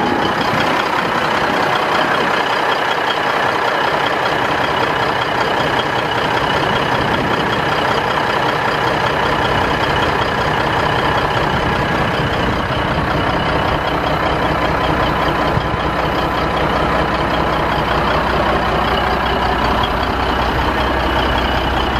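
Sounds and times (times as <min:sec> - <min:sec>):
diesel truck engine idling: 0:00.0 - 0:21.9.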